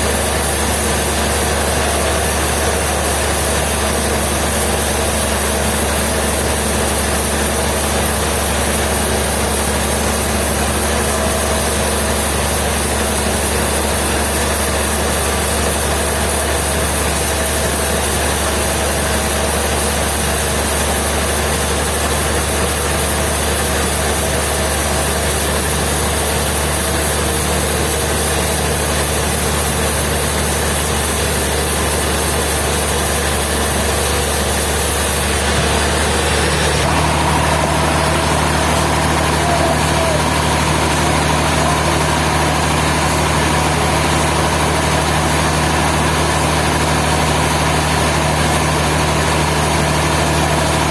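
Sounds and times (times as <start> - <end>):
sawmill machinery engine drone: 0.0 - 50.9.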